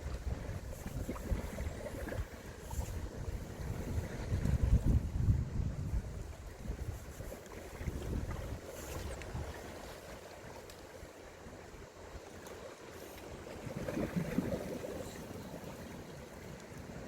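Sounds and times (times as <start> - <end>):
seawater lapping and splashing: 0.0 - 17.0.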